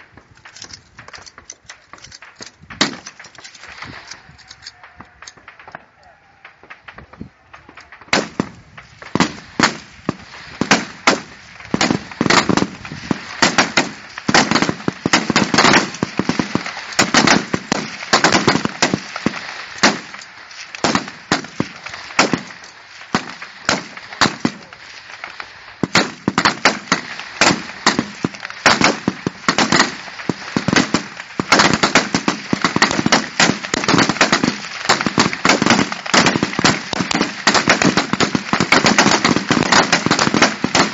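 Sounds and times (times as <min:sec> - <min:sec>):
rifle shots: 0:02.0 - 0:03.4, 0:08.1 - 0:24.8, 0:25.8 - 0:40.9.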